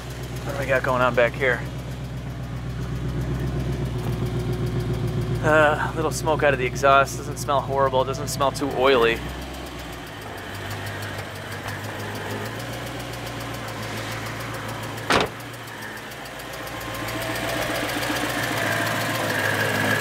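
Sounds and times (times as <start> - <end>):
car engine idling roughly: 0.0 - 20.0.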